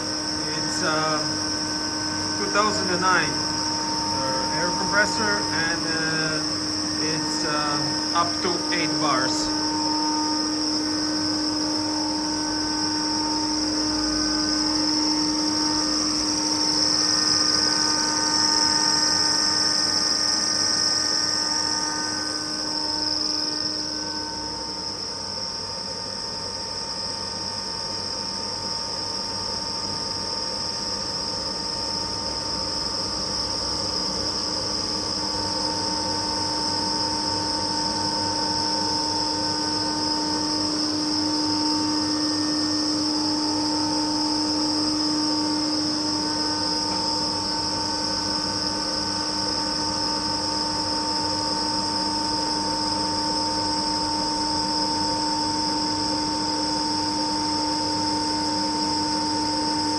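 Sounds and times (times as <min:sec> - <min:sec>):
air compressor whining: 0:00.0 - 0:32.6, 0:33.2 - 0:59.9.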